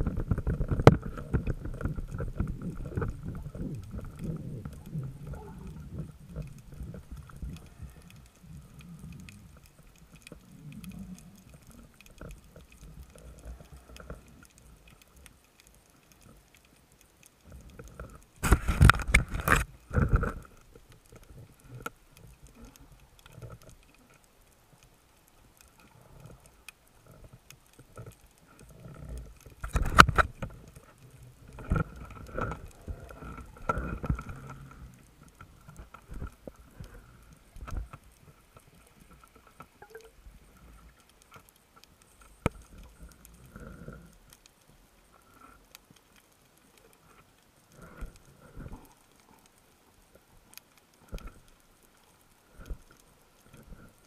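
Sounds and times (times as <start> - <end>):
muffled underwater knocks and rustles: 0.0 - 16.8, 17.4 - 24.9, 25.6 - 54.0.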